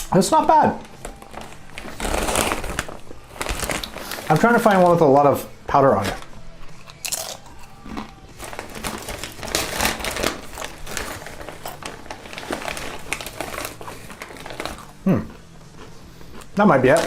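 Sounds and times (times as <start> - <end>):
chip bag crinkling and rustling: 0.0 - 17.0.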